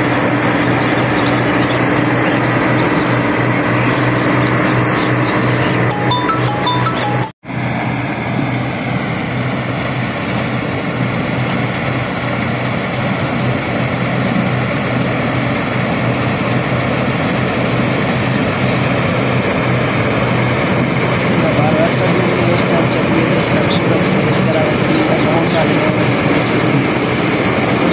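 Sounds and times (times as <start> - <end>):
combine harvester engine drone: 0.0 - 27.9.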